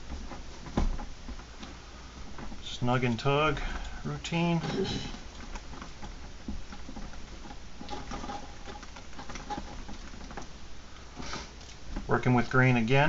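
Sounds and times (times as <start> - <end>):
cord rustling through fingers: 0.0 - 12.2.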